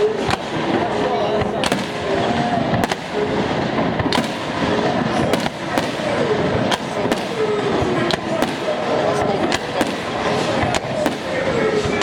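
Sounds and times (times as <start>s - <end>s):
continuous dense noise: 0.0s - 12.0s
fireworks bursting with sharp bangs: 0.0s - 12.0s.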